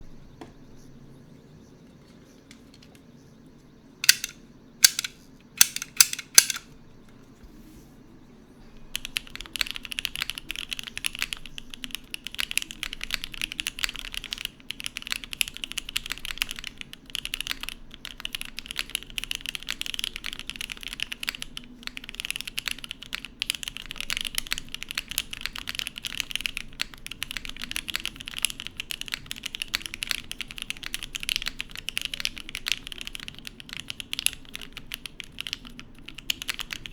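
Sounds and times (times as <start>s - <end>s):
mechanical keyboard typing: 4.0s - 6.7s, 8.9s - 36.9s.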